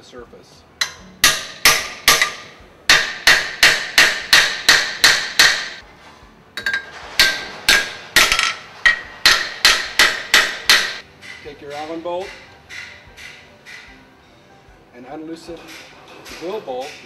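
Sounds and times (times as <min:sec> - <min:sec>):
hammer striking metal straps: 0:00.8 - 0:05.8, 0:06.6 - 0:14.0, 0:15.4 - 0:17.0.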